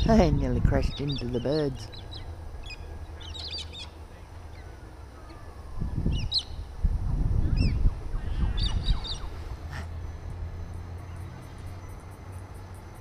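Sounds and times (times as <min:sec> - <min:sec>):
wind buffeting microphone: 0:00.0 - 0:12.2
birds calling: 0:00.0 - 0:13.0.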